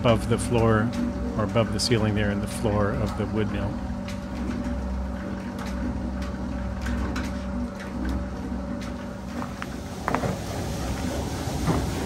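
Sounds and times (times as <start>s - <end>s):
gear train low hum: 0.0s - 12.0s.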